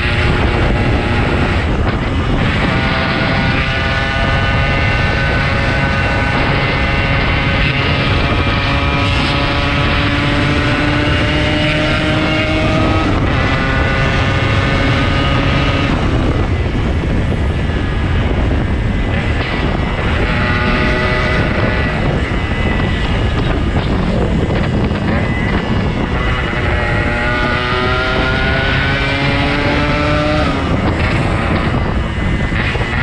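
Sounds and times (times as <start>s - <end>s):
motorcycle engine running: 0.0s - 33.0s
wind rumble on microphone: 0.0s - 33.0s.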